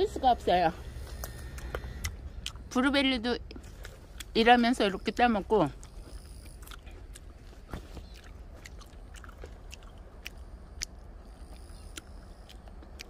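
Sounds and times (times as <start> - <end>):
person chewing berries: 0.8 - 4.6, 5.6 - 13.0.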